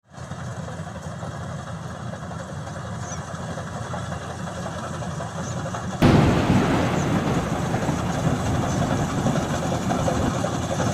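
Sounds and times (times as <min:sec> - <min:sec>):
combine harvester engine running: 0:00.2 - 0:10.9.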